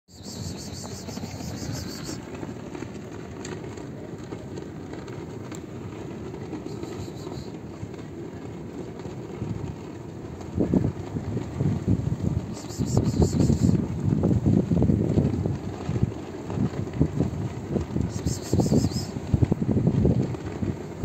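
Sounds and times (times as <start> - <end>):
wind buffeting microphone: 0.2 - 21.0.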